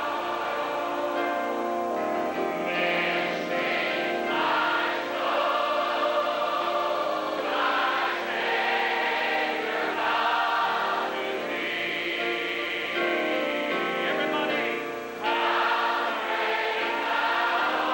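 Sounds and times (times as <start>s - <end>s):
choir singing a hymn: 0.0s - 17.9s.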